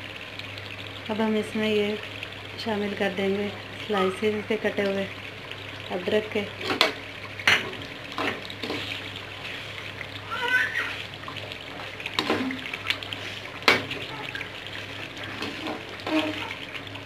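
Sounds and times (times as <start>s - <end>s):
gravy sizzling in a pan: 0.0s - 17.0s.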